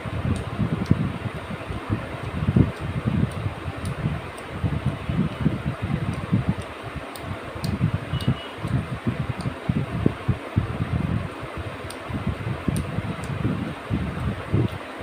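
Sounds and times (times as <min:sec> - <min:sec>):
air buffeting microphone: 0:00.0 - 0:15.0.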